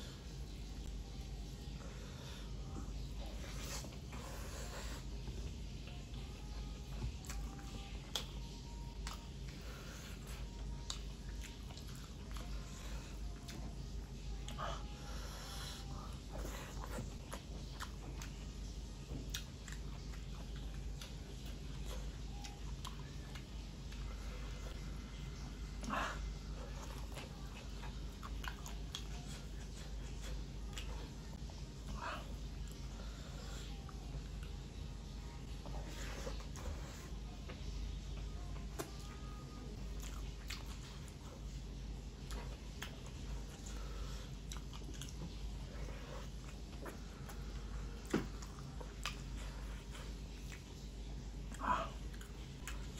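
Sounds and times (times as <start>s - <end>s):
chewing: 0.1s - 52.9s.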